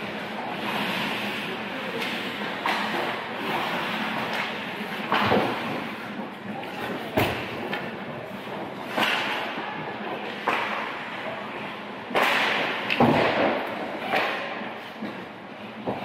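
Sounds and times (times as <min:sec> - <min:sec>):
hockey sticks and puck cracking: 0:00.0 - 0:11.3, 0:12.1 - 0:16.0
echoing rink din: 0:00.1 - 0:11.3, 0:12.1 - 0:16.0.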